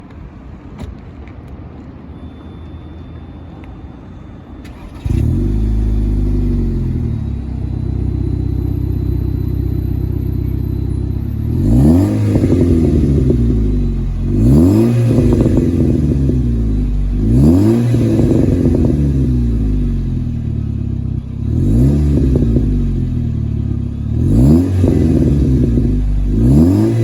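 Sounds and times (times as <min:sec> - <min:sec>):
car engine idling and revving: 0:04.6 - 0:27.0.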